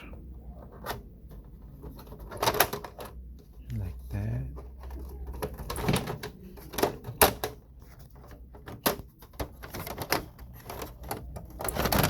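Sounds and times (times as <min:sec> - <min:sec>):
plastic parts clicking and knocking: 0:00.0 - 0:03.8, 0:04.5 - 0:12.0.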